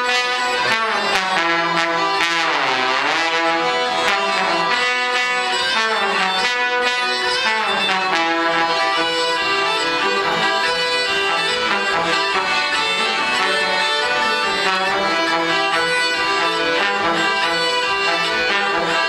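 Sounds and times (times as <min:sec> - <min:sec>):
accordion: 0:00.0 - 0:19.0
bagpipe: 0:00.0 - 0:19.0
trombone: 0:00.0 - 0:19.0.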